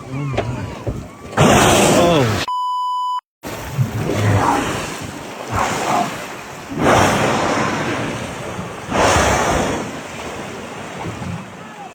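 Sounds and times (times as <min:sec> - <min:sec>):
sea water splashing against boat: 0:00.0 - 0:02.4, 0:03.5 - 0:11.9.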